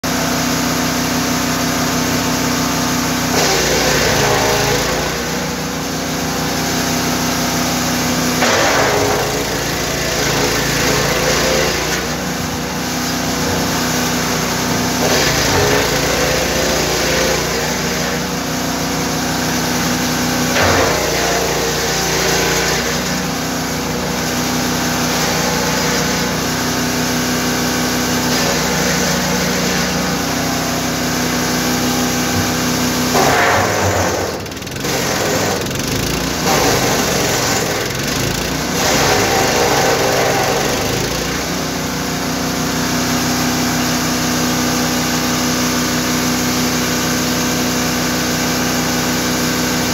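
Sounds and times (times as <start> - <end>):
wood chipper engine running: 0.0 - 49.9.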